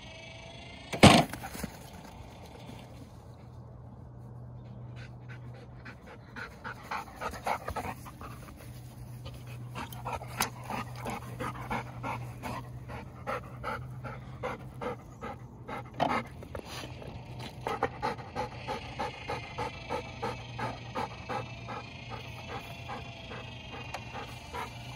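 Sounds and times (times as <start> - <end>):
dog panting: 4.8 - 24.9.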